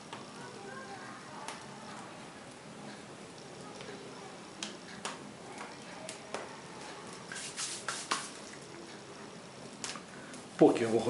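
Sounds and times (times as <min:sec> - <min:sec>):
fire hissing: 0:00.0 - 0:10.6
firewood crackling and popping: 0:00.0 - 0:10.9.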